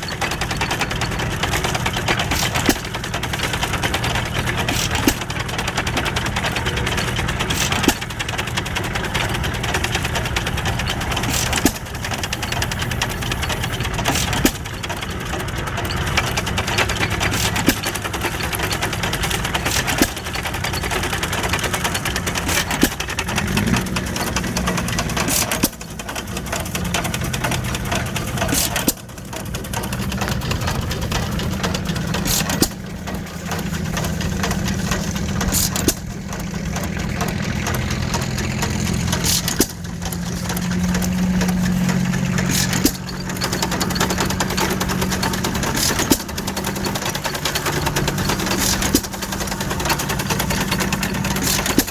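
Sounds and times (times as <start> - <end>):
engine firing cracks: 0.0 - 51.9
stationary engine drone: 0.0 - 51.9.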